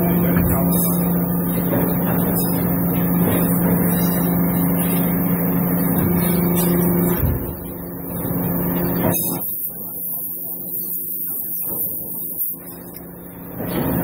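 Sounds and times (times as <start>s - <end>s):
hydraulic press humming: 0.0s - 14.0s.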